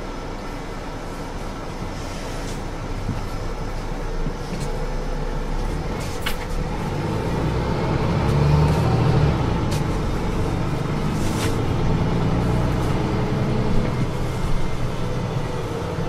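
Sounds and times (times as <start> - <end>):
bus engine hum: 0.0 - 16.0.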